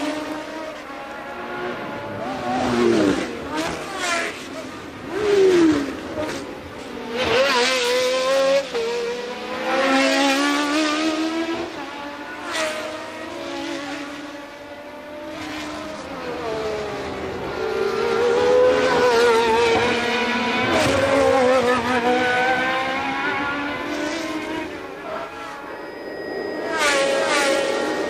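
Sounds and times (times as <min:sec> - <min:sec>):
racing cars passing: 0:00.0 - 0:28.0.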